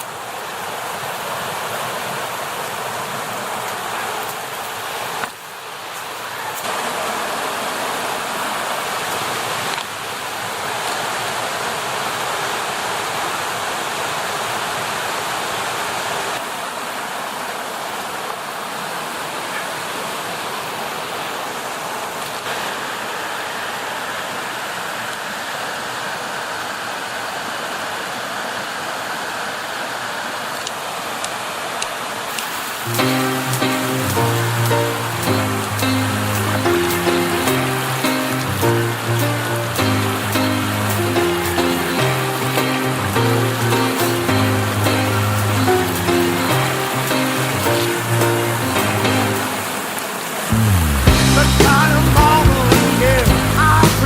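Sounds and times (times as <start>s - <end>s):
creek water rushing over cascades: 0.0s - 54.0s.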